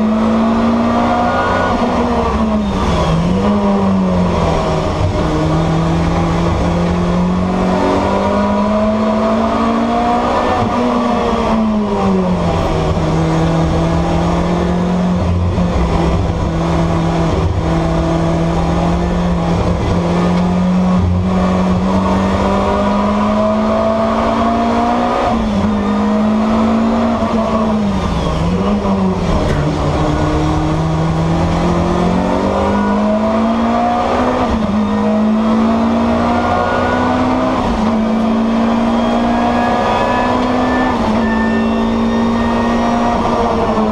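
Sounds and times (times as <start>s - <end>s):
racing engine revving: 0.0s - 43.9s.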